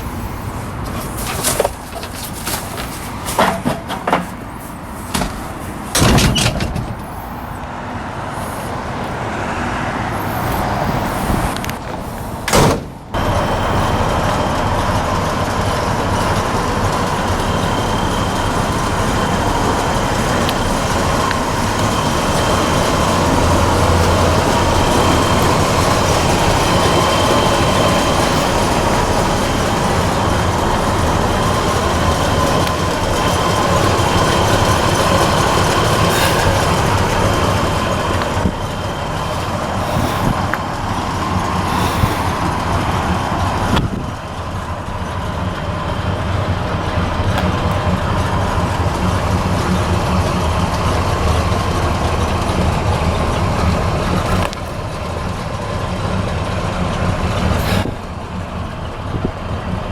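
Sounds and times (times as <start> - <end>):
road and rolling noise: 0.0 - 59.9
truck engine rumble: 0.0 - 59.9.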